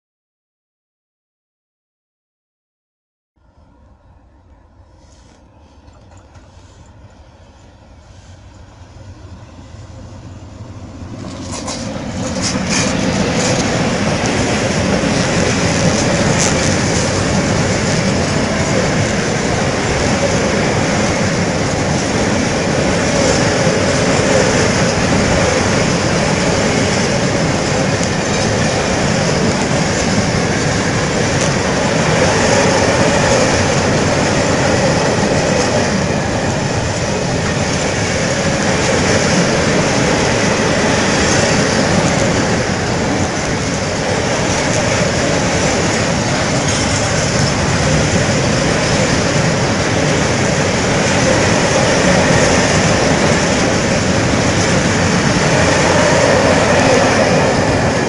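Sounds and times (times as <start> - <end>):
train wheels running over rails: 5.1 - 58.0.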